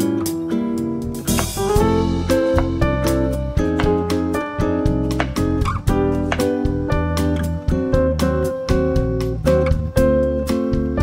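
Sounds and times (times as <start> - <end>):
bass notes: 0.0 - 11.0
plucked guitar background music: 0.0 - 11.0
steady beat: 0.3 - 11.0.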